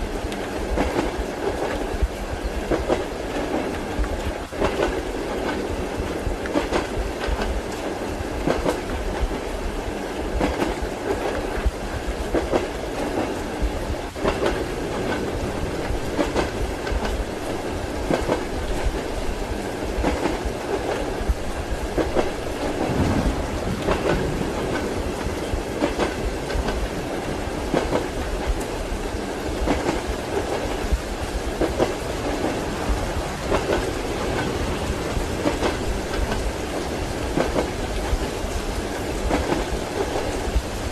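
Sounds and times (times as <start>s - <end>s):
train running rumble: 0.0s - 40.9s
train wheels clattering over rail joints: 0.3s - 9.4s, 10.4s - 40.8s.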